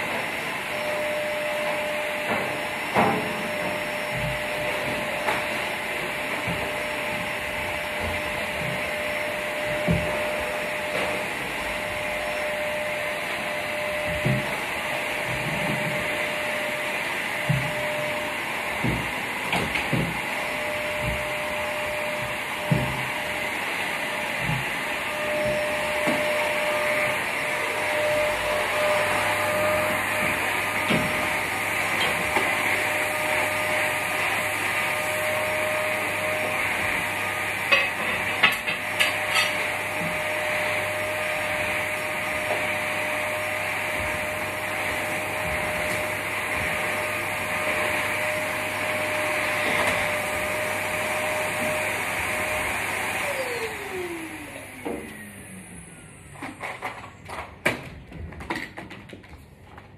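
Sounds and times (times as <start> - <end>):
vacuum cleaner running: 0.0 - 58.8.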